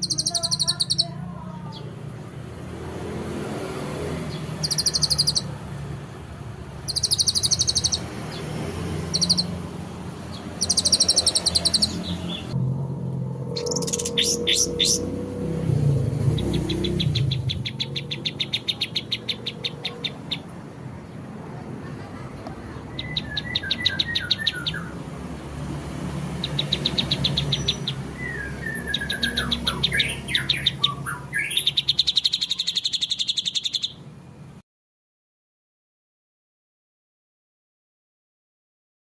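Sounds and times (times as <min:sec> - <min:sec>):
songbird rapid harsh song: 0:00.0 - 0:02.2, 0:03.0 - 0:12.6, 0:13.5 - 0:21.4, 0:22.4 - 0:34.5.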